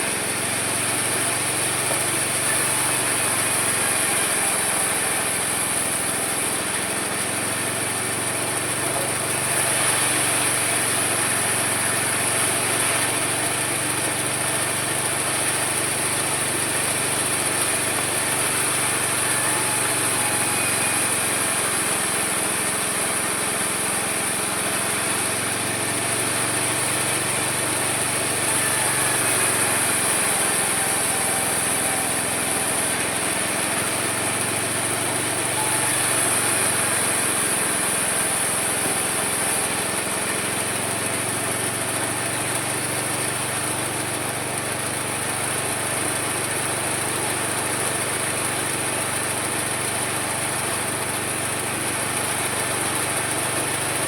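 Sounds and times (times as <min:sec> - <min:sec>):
sawmill cutting a log: 0:00.0 - 0:54.0.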